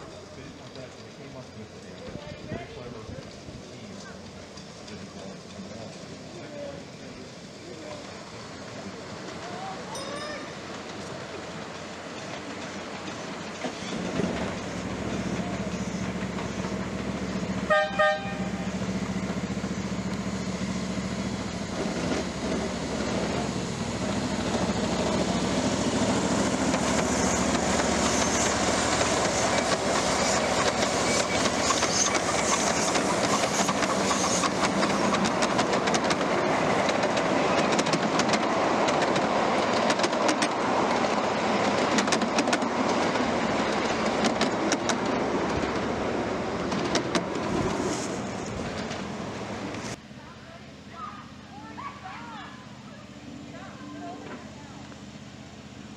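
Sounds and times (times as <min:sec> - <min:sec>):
train wheels clattering on track: 0:00.0 - 0:50.0.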